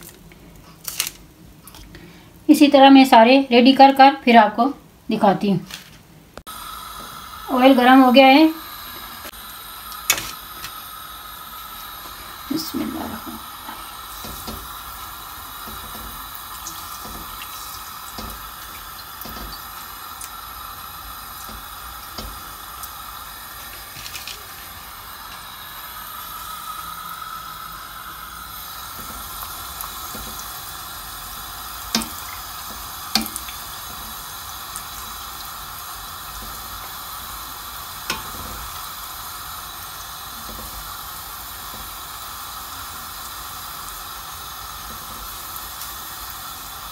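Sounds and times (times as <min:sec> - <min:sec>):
food deep-frying in oil: 0:00.0 - 0:46.9.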